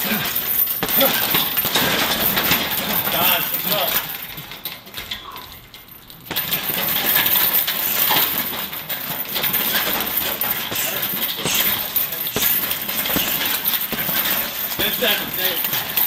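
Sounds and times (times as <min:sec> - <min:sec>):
medicine ball hitting heavy bag: 0:00.0 - 0:03.8, 0:06.3 - 0:16.0
metallic clinking and jingling: 0:00.0 - 0:16.0.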